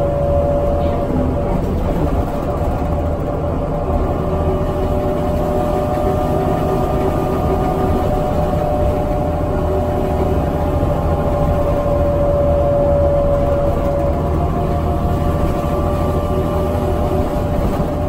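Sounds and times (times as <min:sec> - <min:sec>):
bus engine rumble: 0:00.0 - 0:18.0
road noise: 0:00.0 - 0:18.0
steady whine: 0:00.0 - 0:18.0.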